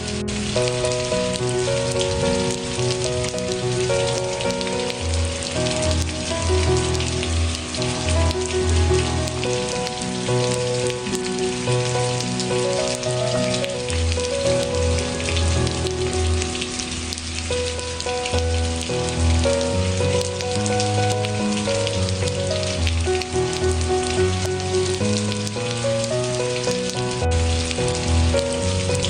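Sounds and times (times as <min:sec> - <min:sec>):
slow ambient music: 0:00.0 - 0:29.0
steady rain falling: 0:00.0 - 0:29.0.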